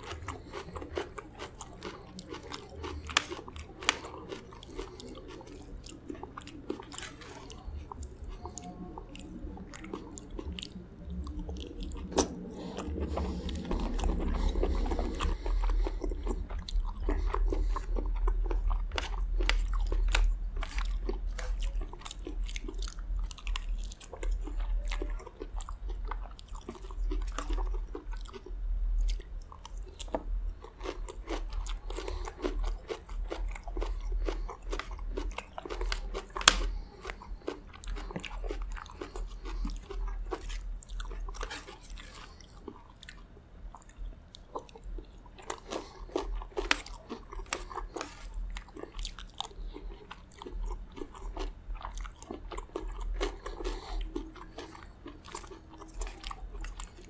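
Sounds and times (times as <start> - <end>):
close chewing and crunching: 0.0 - 57.0.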